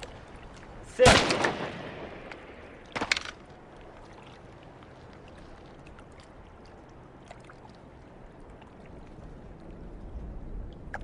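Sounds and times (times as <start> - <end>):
river flowing: 0.0 - 10.0.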